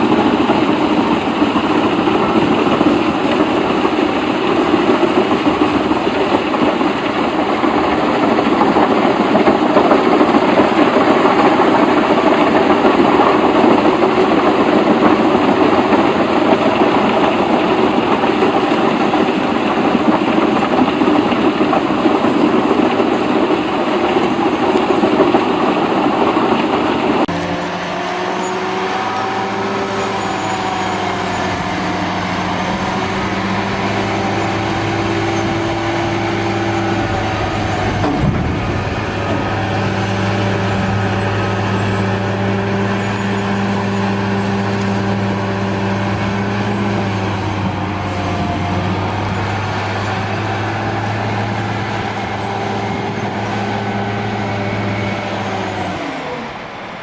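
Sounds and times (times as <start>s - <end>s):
engine drone with low hum: 0.0s - 57.0s.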